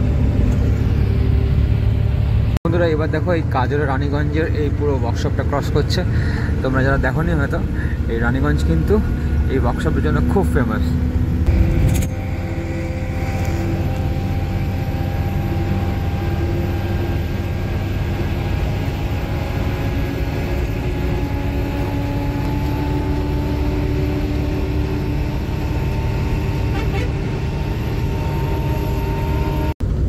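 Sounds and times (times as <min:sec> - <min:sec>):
bus engine and road drone: 0:00.0 - 0:30.0.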